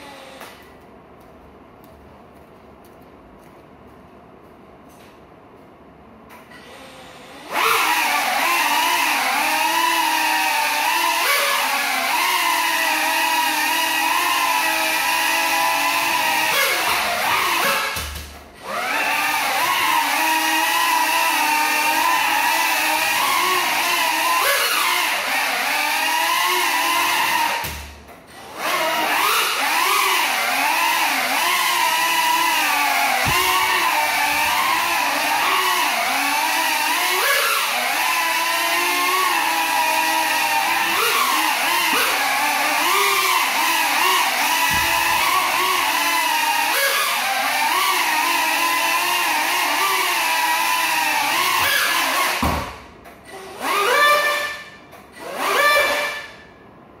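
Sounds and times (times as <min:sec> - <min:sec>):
drone motors whining: 0:06.5 - 0:56.4.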